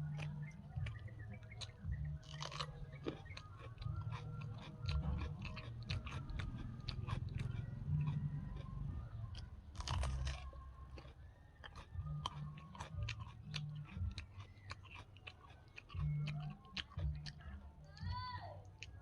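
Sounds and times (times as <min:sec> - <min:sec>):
chewing and crunching food: 0:00.0 - 0:19.0
mouth clicks: 0:00.0 - 0:19.0.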